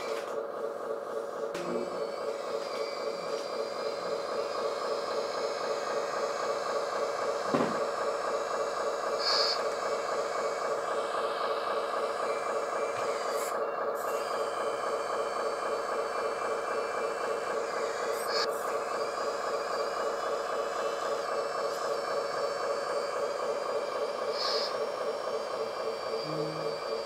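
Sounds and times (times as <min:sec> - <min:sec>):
hydraulic pump whining: 0:00.0 - 0:27.0.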